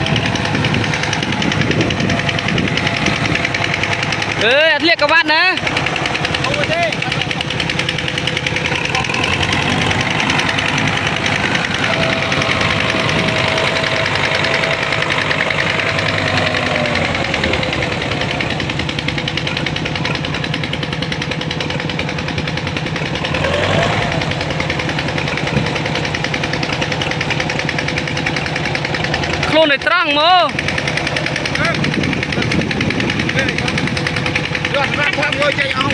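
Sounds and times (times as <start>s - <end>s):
tractor engine knocking: 0.0s - 35.9s.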